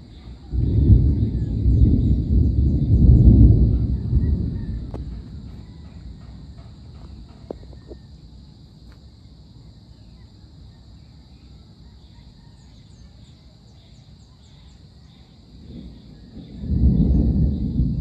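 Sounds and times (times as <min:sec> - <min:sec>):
high insect drone: 0:00.0 - 0:18.0
low steady thunder rumble: 0:00.0 - 0:18.0.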